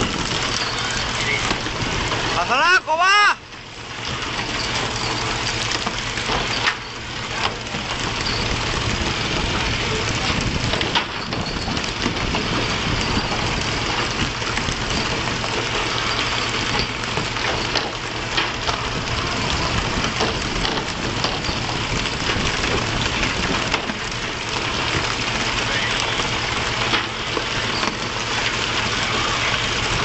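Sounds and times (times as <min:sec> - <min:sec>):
boat engine humming: 0:00.0 - 0:30.0
wind and water rushing: 0:00.0 - 0:30.0.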